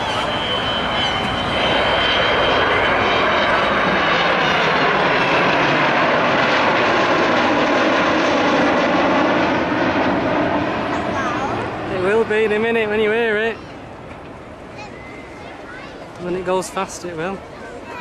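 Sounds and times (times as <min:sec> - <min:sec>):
jet aircraft flypast: 0:00.0 - 0:18.0.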